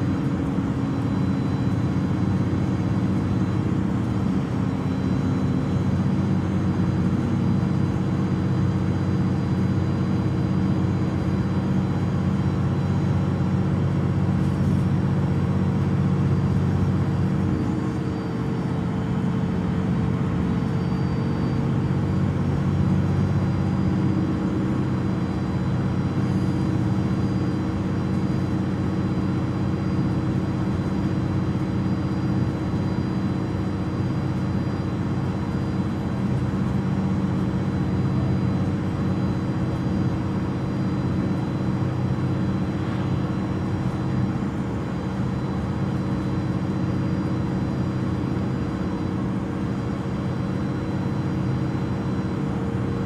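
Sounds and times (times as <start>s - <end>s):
diesel bus engine idling: 0.0s - 53.0s.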